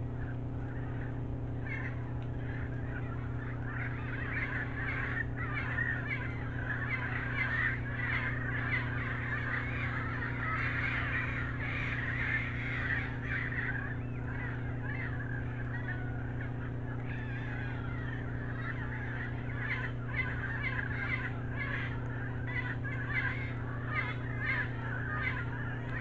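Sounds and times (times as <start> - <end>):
forest birds calling: 0.0 - 26.0
steady low hum: 0.0 - 26.0.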